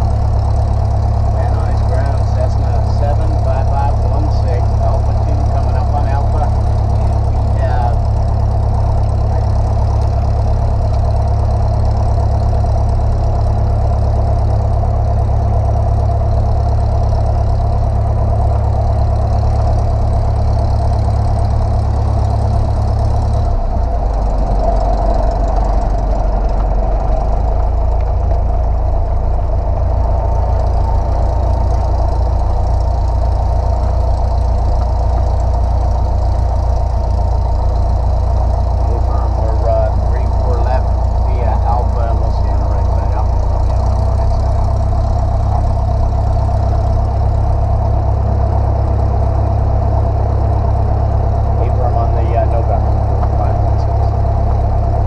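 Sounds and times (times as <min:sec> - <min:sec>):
light airplane engine idling: 0:00.0 - 0:55.0.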